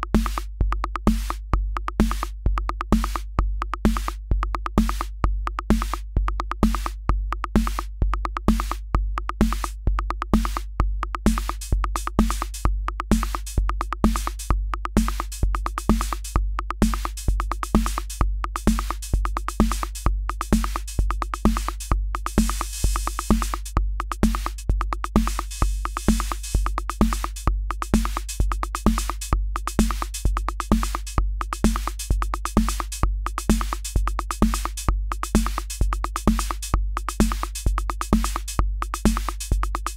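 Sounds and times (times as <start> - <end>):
drum machine electronic beat: 0.0 - 39.9.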